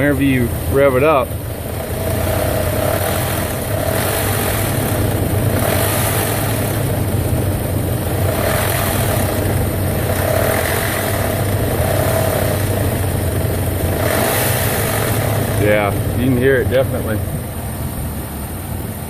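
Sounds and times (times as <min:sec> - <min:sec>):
car engine revving: 0:00.0 - 0:19.0
engine ticking: 0:00.0 - 0:19.0.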